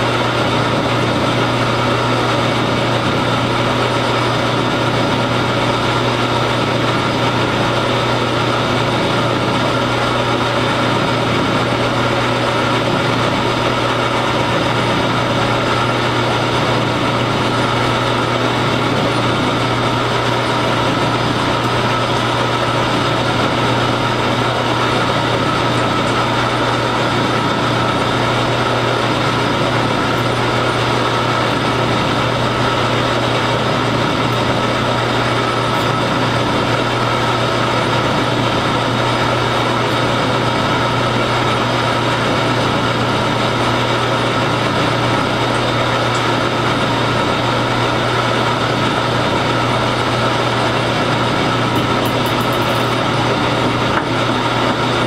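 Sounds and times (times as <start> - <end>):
drill boring into workpiece: 0.0 - 55.0
metal lathe humming: 0.0 - 55.0.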